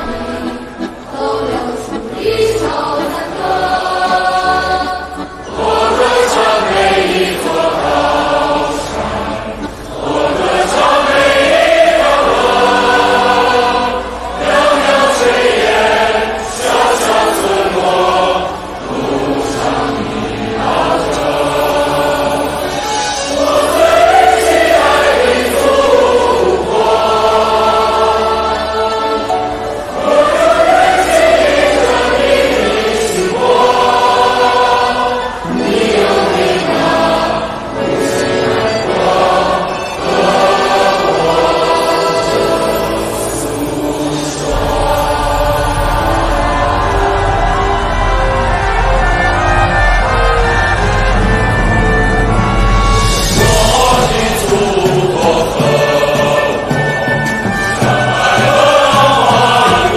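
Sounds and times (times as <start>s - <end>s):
choir singing with accompaniment: 0.0s - 59.9s.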